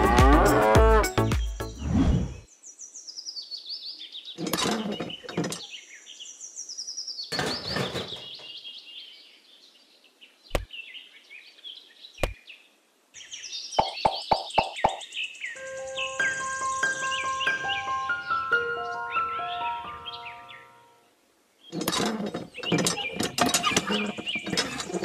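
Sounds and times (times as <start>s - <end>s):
small birds chirping: 1.2s - 20.8s, 21.6s - 25.0s.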